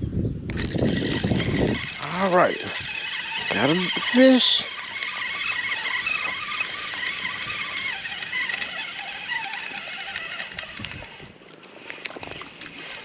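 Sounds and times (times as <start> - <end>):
fishing reel whirring: 0.5 - 13.0.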